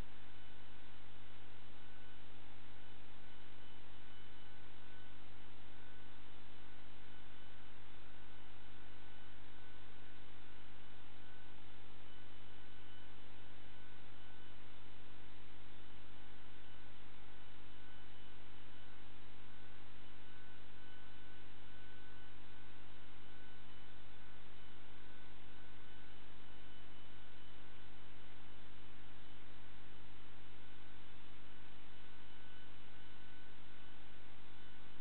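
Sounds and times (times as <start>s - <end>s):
electrical hum with hiss: 0.0s - 35.0s.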